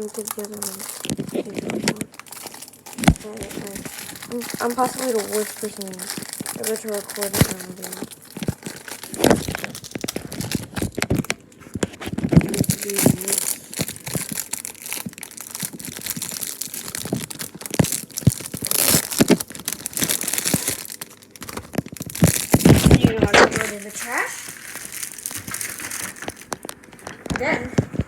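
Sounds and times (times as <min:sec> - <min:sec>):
plastic wrapping crinkling and tearing: 0:00.0 - 0:28.0.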